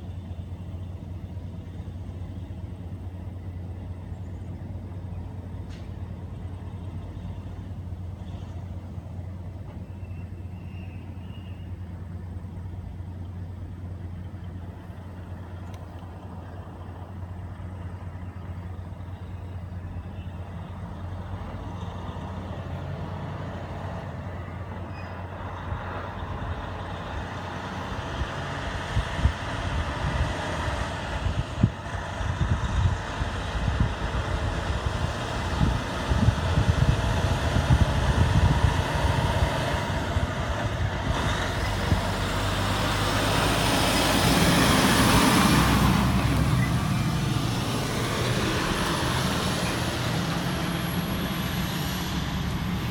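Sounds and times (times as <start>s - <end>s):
truck engine rumble: 0.0s - 52.9s.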